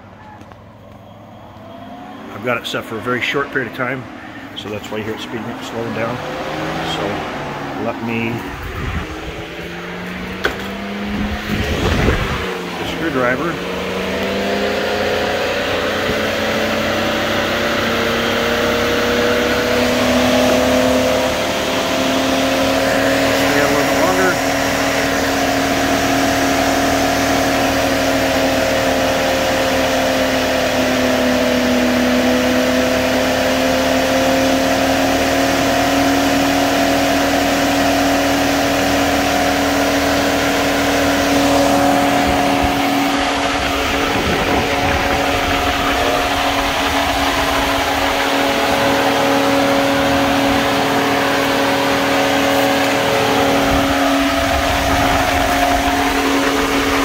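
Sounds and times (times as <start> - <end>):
radiator cooling fan whirring: 2.1 - 57.0.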